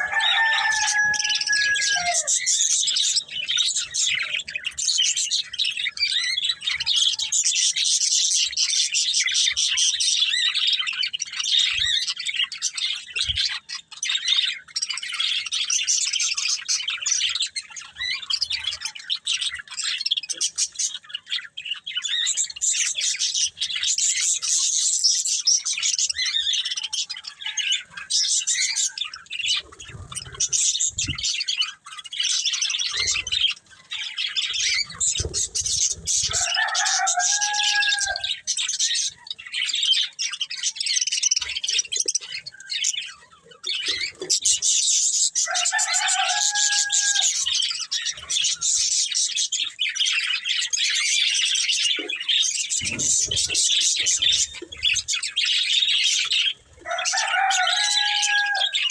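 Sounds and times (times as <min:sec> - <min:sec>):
budgies chirping and chattering: 0:00.0 - 0:58.9.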